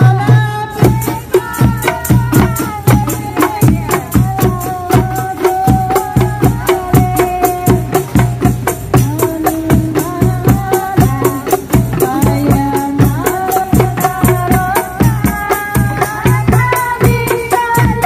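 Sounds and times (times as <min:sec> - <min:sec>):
bass drum beat: 0:00.0 - 0:18.0
frame drums and jingles: 0:00.0 - 0:18.0
voices singing a melody: 0:00.0 - 0:18.0.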